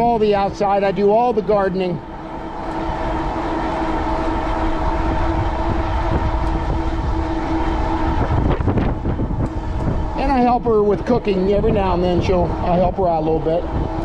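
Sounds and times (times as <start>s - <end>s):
electric hub motor whine: 0.0s - 14.0s
wind rumble on microphone: 2.1s - 14.0s.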